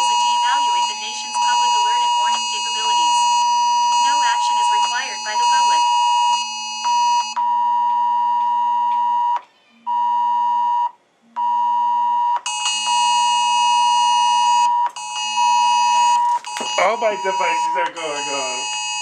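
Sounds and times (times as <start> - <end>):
loud steady alarm tone: 0.0 - 19.0.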